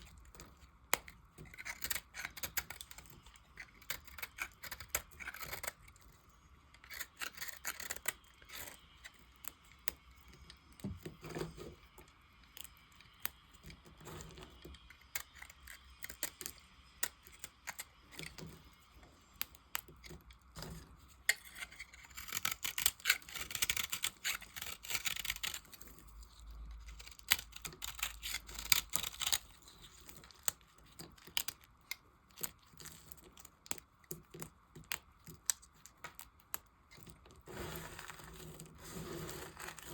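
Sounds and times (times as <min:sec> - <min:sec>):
knife cutting dry soap: 0:00.0 - 0:20.6, 0:21.2 - 0:39.9.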